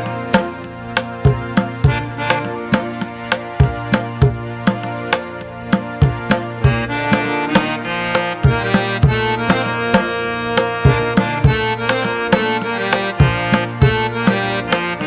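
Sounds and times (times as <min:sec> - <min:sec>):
steady percussion beat: 0:00.0 - 0:15.0
sustained melodic instruments: 0:00.0 - 0:15.0.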